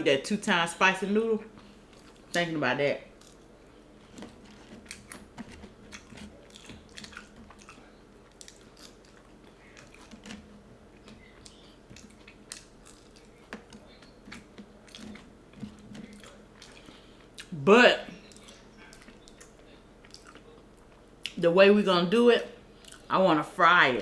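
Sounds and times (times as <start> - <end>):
person chewing food: 1.5 - 2.4, 3.1 - 21.4, 22.7 - 23.1.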